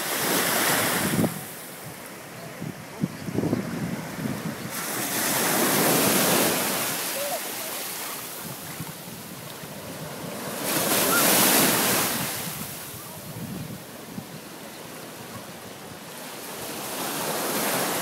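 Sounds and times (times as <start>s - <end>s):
ocean waves breaking on beach: 0.0s - 18.0s
wind on microphone: 0.2s - 7.3s, 8.3s - 16.0s.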